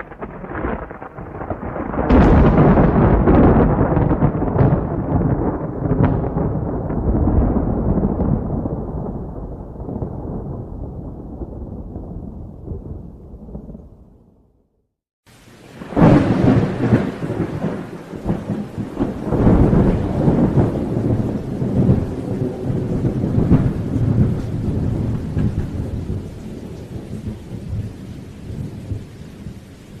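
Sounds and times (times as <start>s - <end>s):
steady rain: 0.0s - 13.8s, 15.2s - 30.0s
thunder rumbling: 0.0s - 14.5s, 15.3s - 30.0s.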